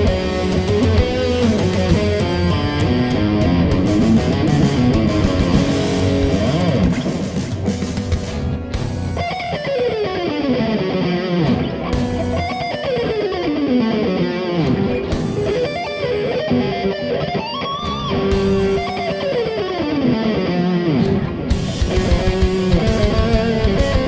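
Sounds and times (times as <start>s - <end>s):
electric guitar lead: 0.0s - 24.0s.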